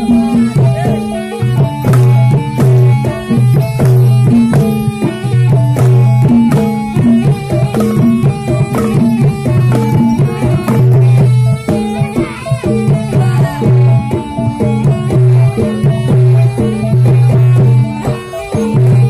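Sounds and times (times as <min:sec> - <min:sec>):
hand drums beating: 0:00.0 - 0:19.0
ringing metal percussion: 0:00.0 - 0:19.0.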